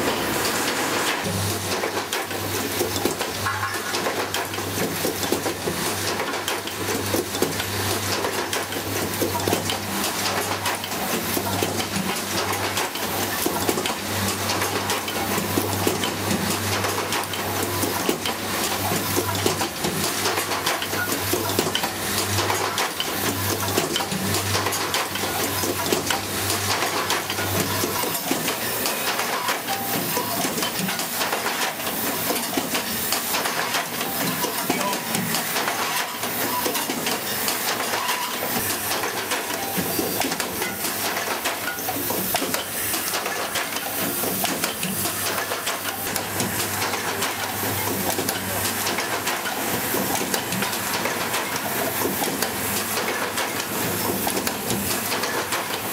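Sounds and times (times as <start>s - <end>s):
machine clattering and ticking: 1.2s - 55.9s.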